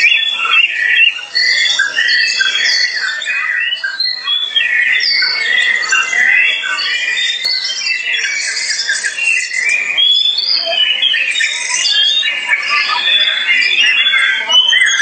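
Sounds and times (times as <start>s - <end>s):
bird singing whistles and chirps: 0.0s - 15.0s.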